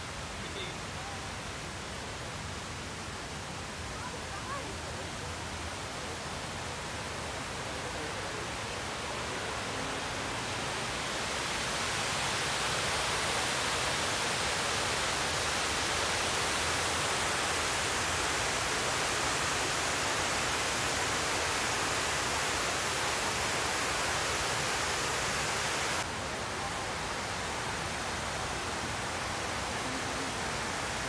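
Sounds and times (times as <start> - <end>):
steady hiss-like rushing noise: 0.0 - 31.0.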